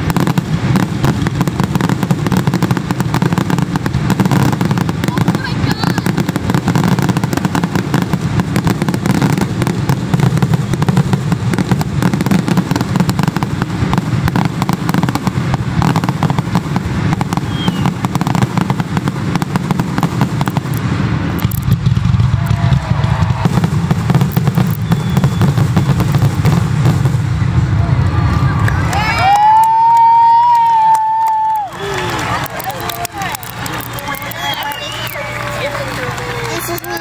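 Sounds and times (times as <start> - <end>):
fireworks crackling and popping: 0.0 - 37.0.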